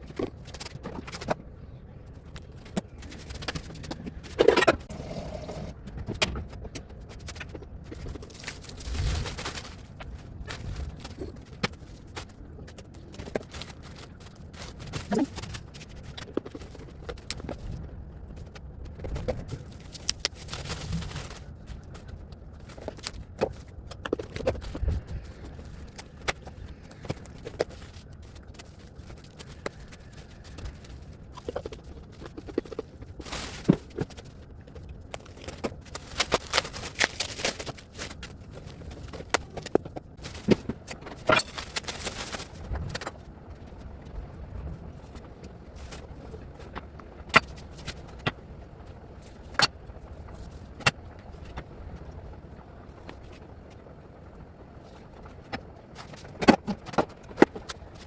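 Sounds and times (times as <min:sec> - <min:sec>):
rustling of food packs: 0:00.0 - 0:58.0.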